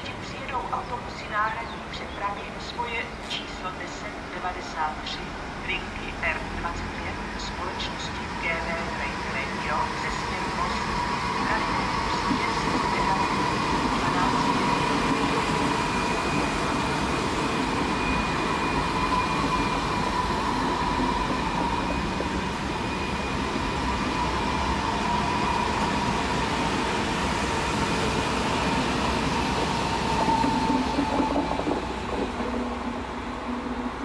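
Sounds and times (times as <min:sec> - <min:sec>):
train high whine: 0:00.0 - 0:34.0.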